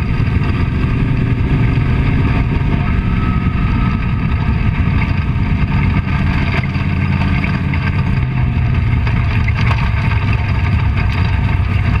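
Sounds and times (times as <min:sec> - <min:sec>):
race car engine at low revs: 0:00.0 - 0:12.0.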